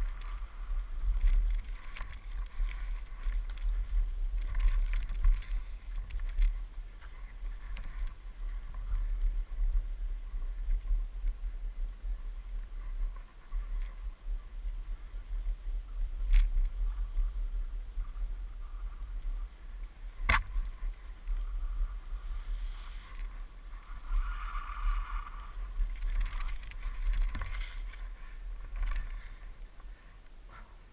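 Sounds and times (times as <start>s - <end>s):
board rolling over rough ground: 0.0s - 30.9s
rustling hiss: 0.0s - 30.9s.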